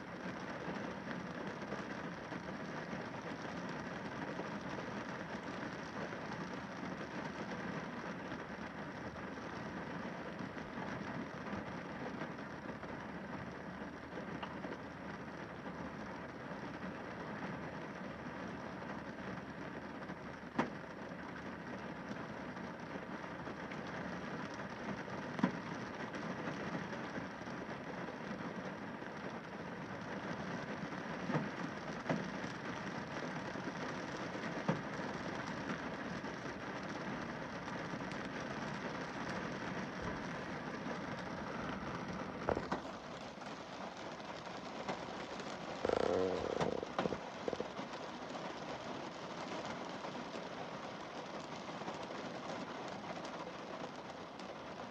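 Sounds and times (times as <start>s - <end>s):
rain pattering on windscreen: 0.0s - 54.9s.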